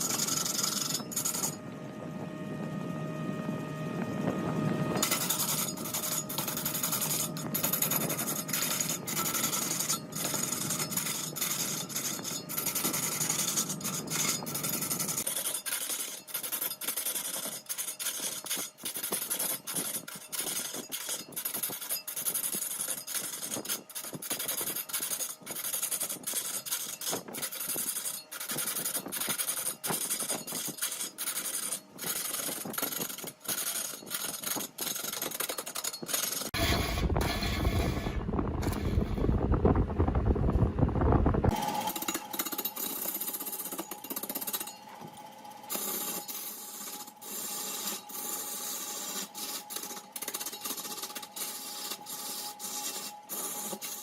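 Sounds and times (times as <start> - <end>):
cutting tool scraping wood on lathe: 0.0 - 1.6, 4.9 - 39.4, 41.5 - 54.0.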